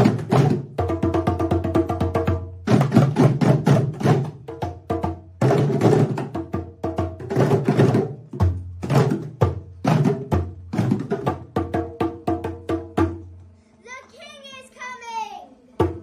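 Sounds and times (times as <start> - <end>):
djembe hand drums: 0.0 - 13.3, 15.8 - 16.0.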